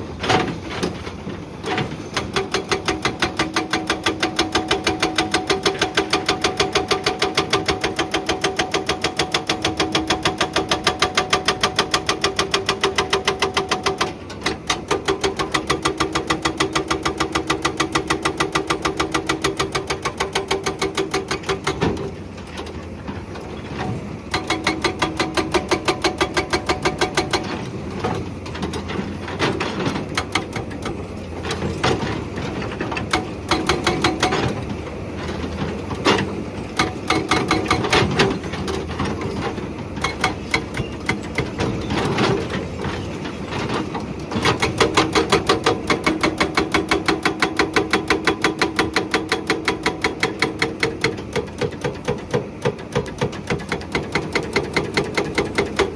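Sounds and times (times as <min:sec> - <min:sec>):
diesel engine running: 0:00.0 - 0:55.9
hydraulic breaker hammering rock: 0:00.1 - 0:55.9.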